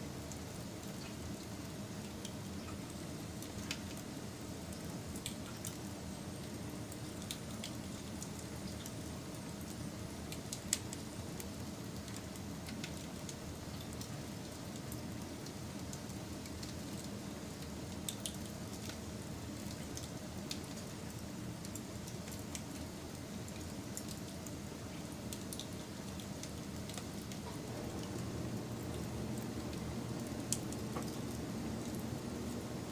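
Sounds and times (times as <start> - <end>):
wood fire burning: 0.1 - 32.9.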